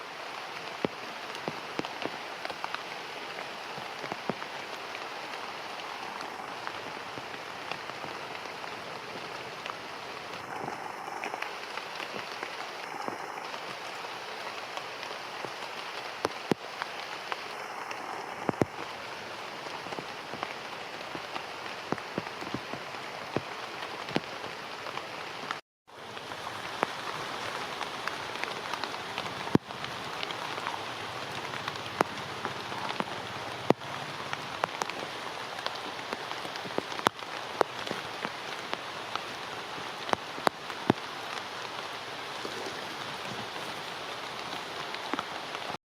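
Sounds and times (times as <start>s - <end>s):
raindrops striking surfaces: 0.0s - 45.8s
steady rain falling: 0.0s - 45.8s.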